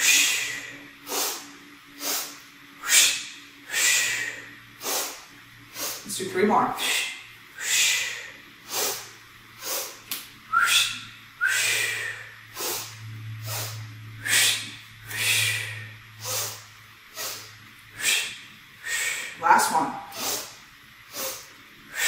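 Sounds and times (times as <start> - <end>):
woman breathing forcefully: 0.0 - 6.1, 6.7 - 10.1, 10.7 - 19.4, 20.1 - 22.0
low steady hum: 0.0 - 22.0.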